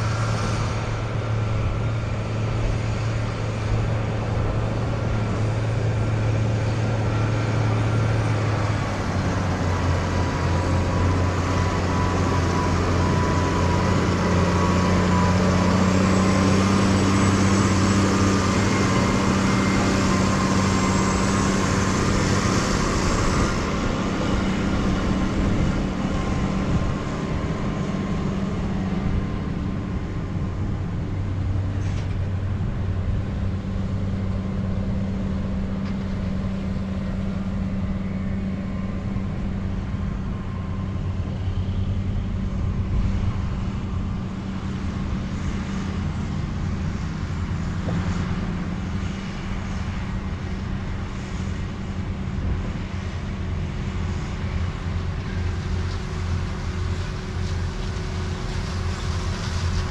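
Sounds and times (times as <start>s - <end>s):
motor drone with low hum: 0.0s - 59.9s.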